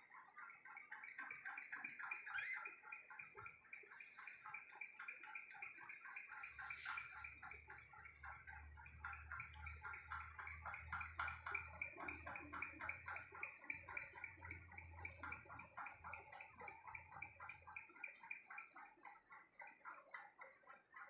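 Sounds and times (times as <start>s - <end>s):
budgerigar clicking: 0.0s - 21.0s.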